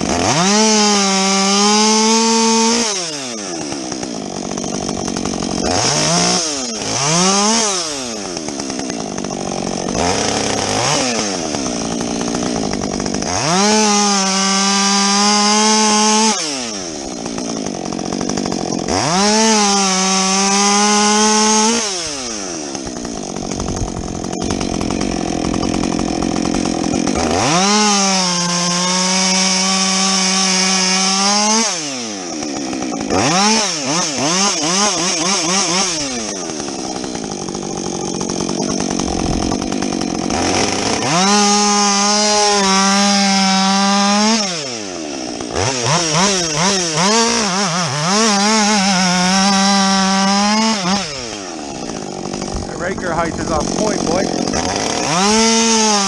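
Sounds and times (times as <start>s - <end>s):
chainsaw idling: 0.0s - 56.0s
chainsaw revving: 0.0s - 56.0s.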